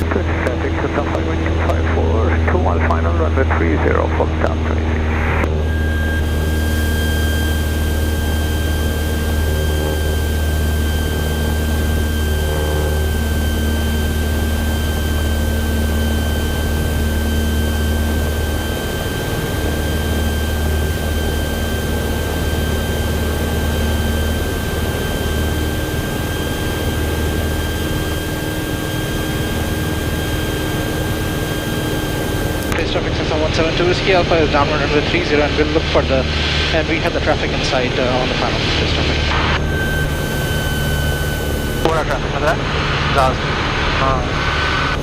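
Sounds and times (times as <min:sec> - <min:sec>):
airplane engine and propeller drone: 0:00.0 - 0:45.0
thin high whine: 0:00.0 - 0:45.0.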